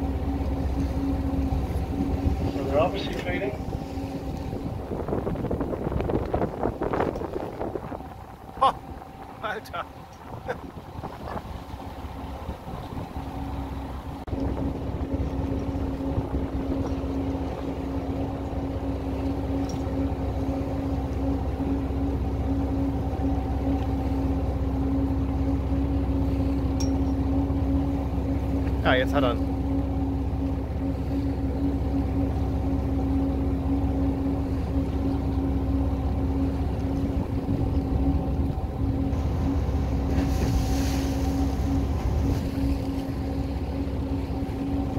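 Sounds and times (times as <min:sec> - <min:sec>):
boat engine droning: 0:00.0 - 0:44.9.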